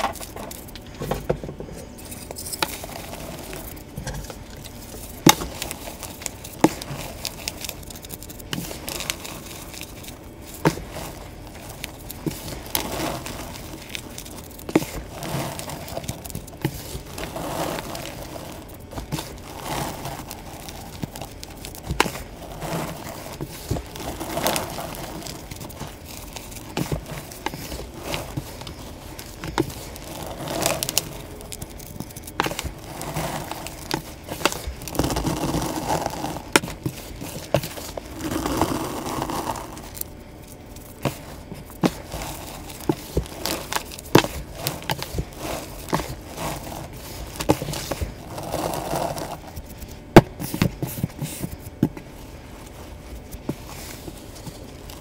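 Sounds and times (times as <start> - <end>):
hands crushing powdery chalk: 0.0 - 55.0.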